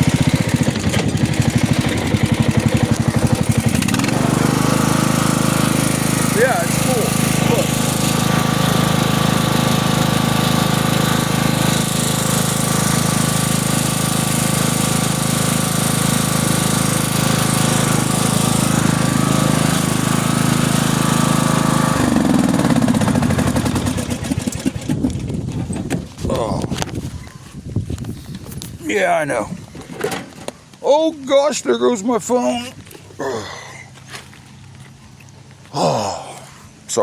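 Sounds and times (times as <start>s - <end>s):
lawn mower engine running: 0.0s - 27.4s, 28.0s - 35.6s.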